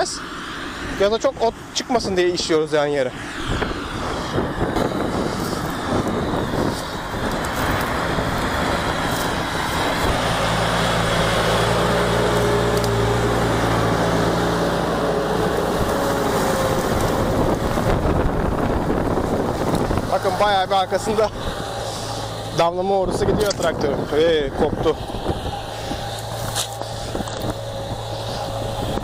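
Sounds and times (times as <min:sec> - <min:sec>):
constant rushing noise: 0:00.0 - 0:29.0
tractor diesel engine running: 0:00.0 - 0:29.0.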